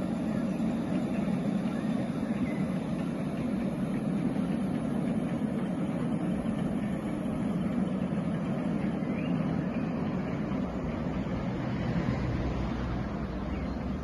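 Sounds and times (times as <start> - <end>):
train rumbling across a bridge: 0.0 - 14.0.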